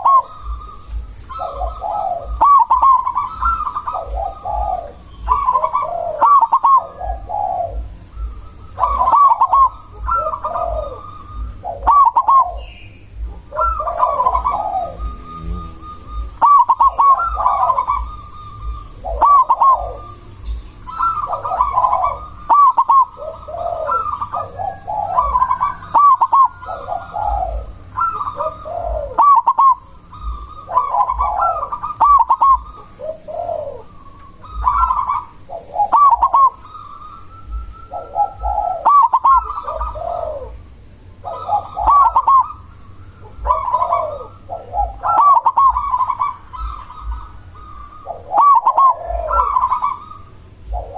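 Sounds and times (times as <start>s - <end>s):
dove cooing: 0.0s - 50.9s
faint high whine: 0.0s - 50.9s.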